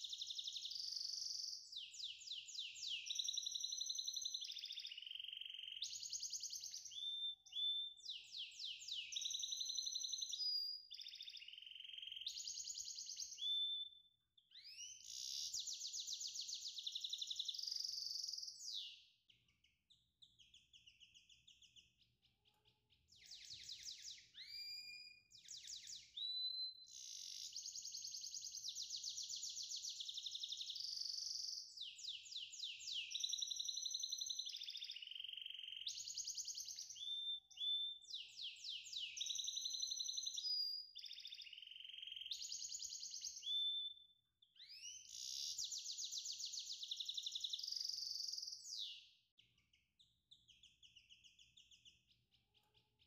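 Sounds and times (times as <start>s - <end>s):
songbird trilling and whistling: 0.0s - 22.4s, 23.0s - 52.4s.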